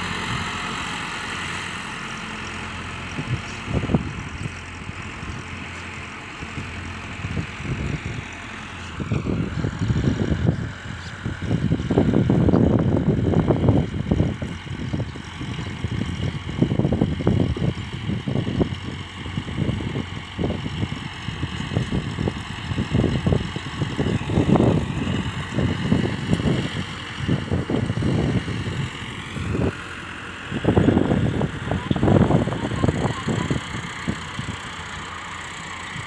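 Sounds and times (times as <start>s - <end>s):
tractor diesel engine droning: 0.0s - 36.0s.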